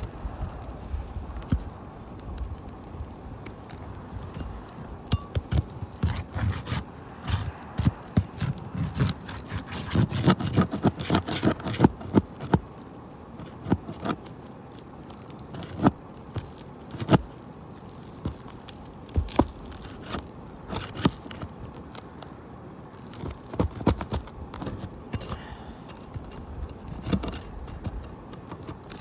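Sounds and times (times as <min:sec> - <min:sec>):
roof shingle scraping and clicking: 0:00.0 - 0:12.8, 0:13.4 - 0:29.0.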